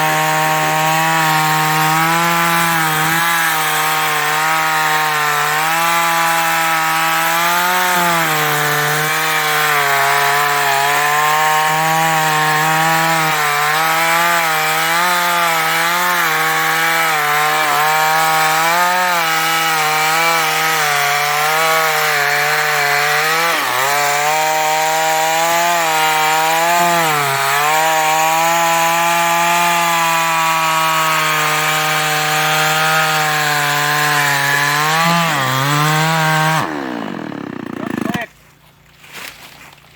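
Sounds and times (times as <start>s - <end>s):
chainsaw cutting wood: 0.0s - 38.4s.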